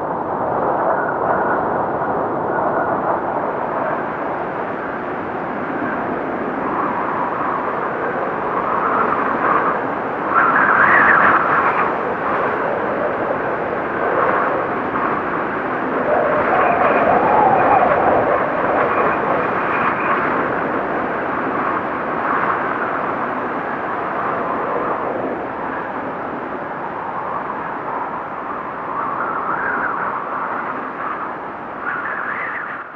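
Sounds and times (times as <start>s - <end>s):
blizzard wind howling: 0.0s - 32.9s.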